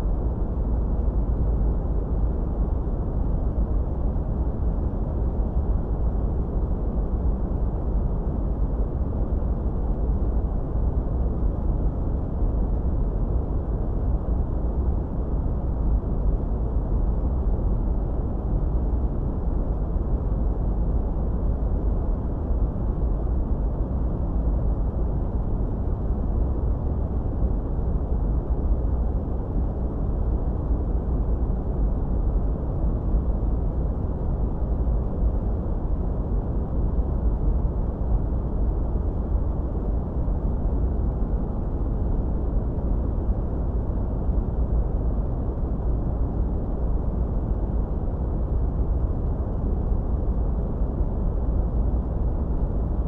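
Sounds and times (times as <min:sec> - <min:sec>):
deep steady rumble noise: 0:00.0 - 0:53.0.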